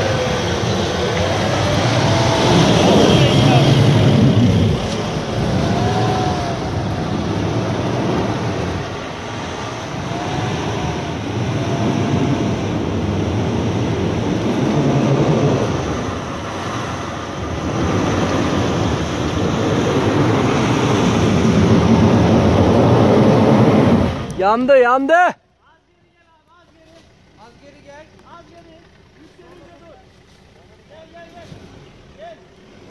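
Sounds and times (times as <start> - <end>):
off-road vehicle engine revving: 0.0 - 24.9, 27.0 - 32.9.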